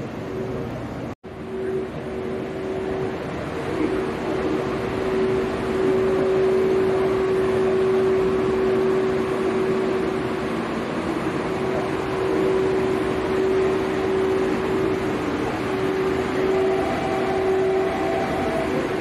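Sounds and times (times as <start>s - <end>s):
freight train running: 0.0s - 19.0s
locomotive humming tone: 0.0s - 19.0s.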